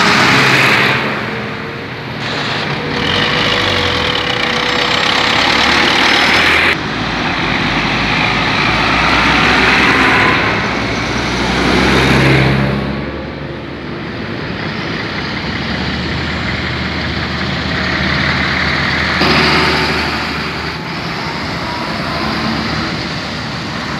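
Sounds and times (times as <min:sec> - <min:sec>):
diesel engines running: 0:00.0 - 0:23.9.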